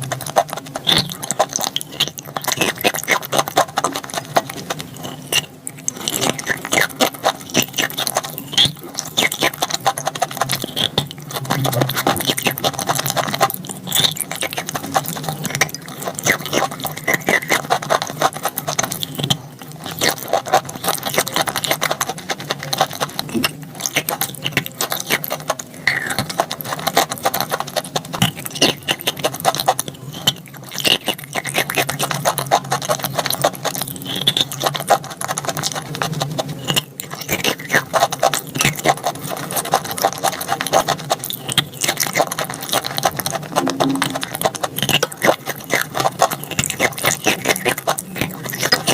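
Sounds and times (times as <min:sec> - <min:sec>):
chalk crunching as chewed: 0:00.0 - 0:48.9.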